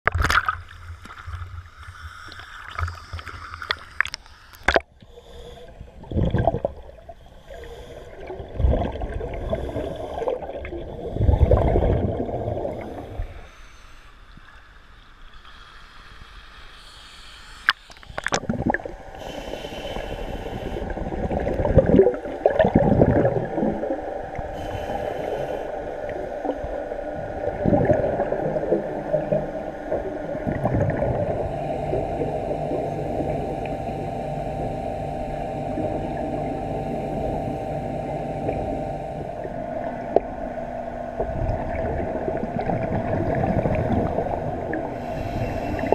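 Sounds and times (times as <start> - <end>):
water sloshing and gurgling: 0.0 - 15.6, 17.6 - 45.9.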